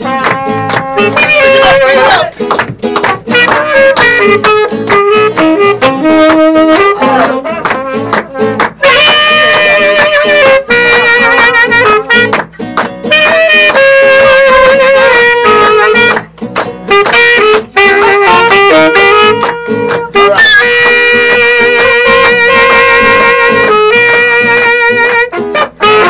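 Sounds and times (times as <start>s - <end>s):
tenor saxophone playing: 0.0s - 2.4s, 3.0s - 16.3s, 16.9s - 26.0s
acoustic guitar strumming: 0.0s - 26.0s
trumpet playing: 0.0s - 26.0s.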